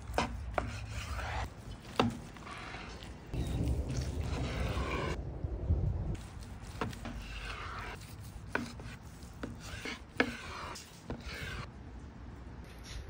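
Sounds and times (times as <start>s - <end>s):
knife sawing through meat crust: 0.0s - 5.2s, 6.2s - 11.7s.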